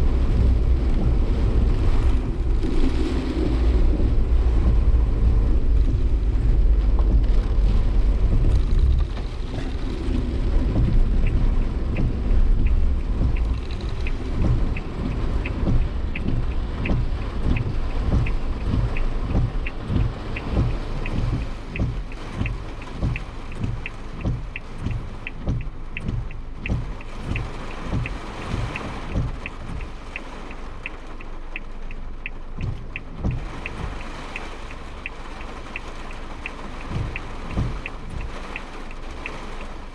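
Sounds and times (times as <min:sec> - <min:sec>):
rain on car body: 0:00.0 - 0:39.9
road and wind rumble: 0:00.0 - 0:39.9
steady ticking: 0:00.0 - 0:39.9.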